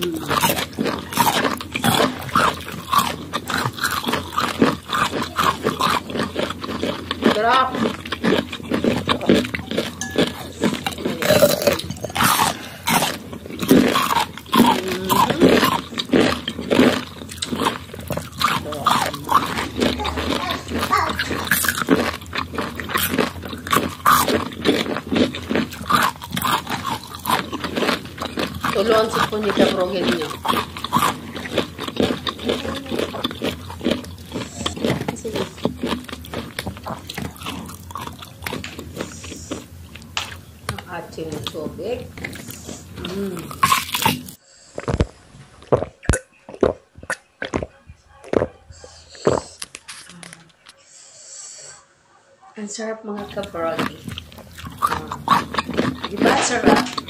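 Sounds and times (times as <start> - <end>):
mouth sounds: 0.0 - 24.8, 25.8 - 39.7, 40.7 - 51.3
wet crunching of mango: 0.0 - 40.8, 42.2 - 48.5, 53.2 - 57.0.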